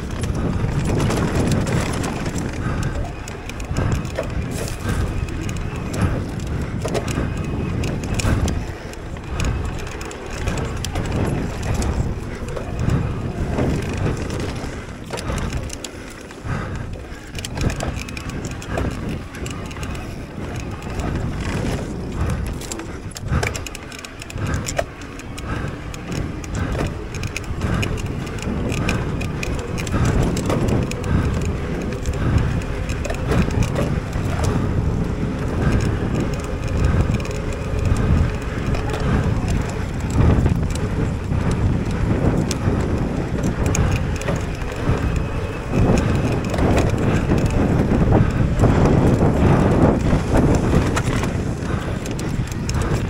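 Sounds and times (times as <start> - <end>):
bike rattling over bumps: 0.0 - 53.0
bike tyres on dirt: 0.0 - 53.0
wind on microphone: 0.0 - 53.0.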